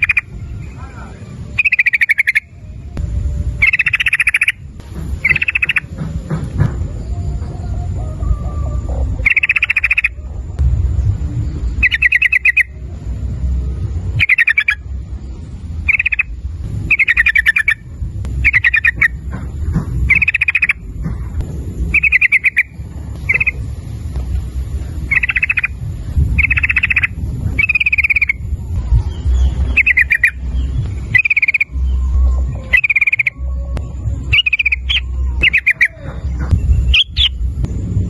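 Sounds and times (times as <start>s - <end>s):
bird singing warbled phrases: 0.0s - 6.0s, 6.9s - 24.0s, 24.7s - 37.6s
steady low rumble: 0.0s - 38.0s.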